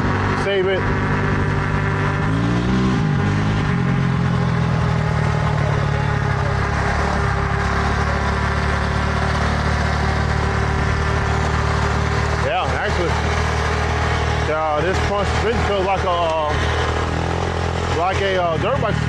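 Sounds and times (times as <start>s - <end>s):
motor running: 0.0s - 19.0s.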